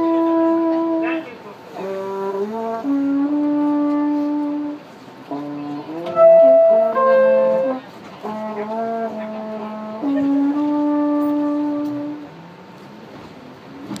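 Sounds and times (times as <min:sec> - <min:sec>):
trombone sustained notes: 0:00.0 - 0:12.7
subway car running noise: 0:00.0 - 0:14.0.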